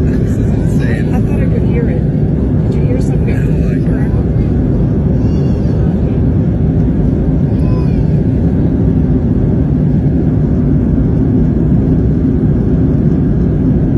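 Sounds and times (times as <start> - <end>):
airliner cabin jet engine rush: 0.0 - 13.9.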